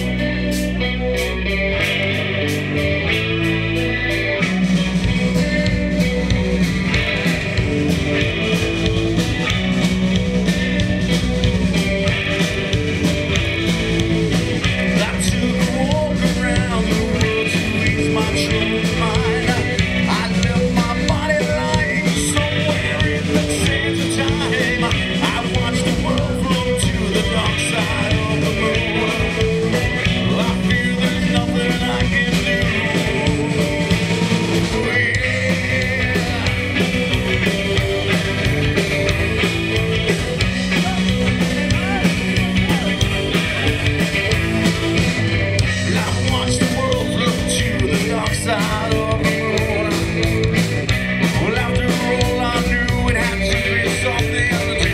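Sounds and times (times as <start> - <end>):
live rock band with singing: 0.0 - 54.9.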